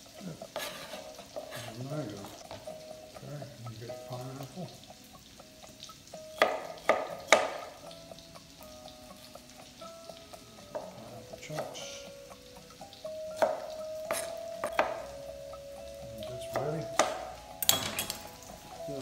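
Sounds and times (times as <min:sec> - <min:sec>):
faint sizzling in a pan: 0:00.0 - 0:19.0.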